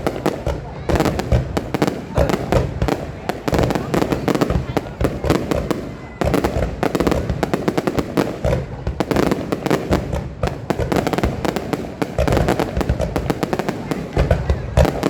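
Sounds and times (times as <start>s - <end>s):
deep fireworks booms: 0.0s - 15.0s
fireworks bangs and crackles: 0.0s - 15.0s.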